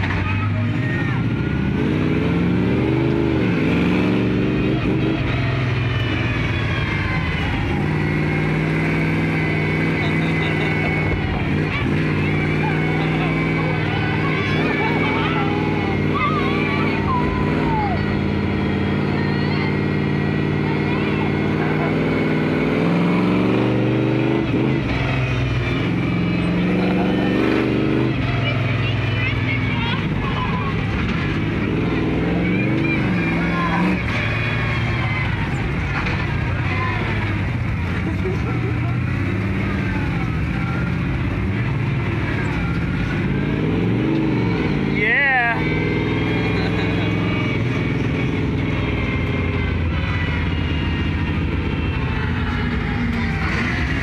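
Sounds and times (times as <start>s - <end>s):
monster truck engine running: 0.0s - 54.0s.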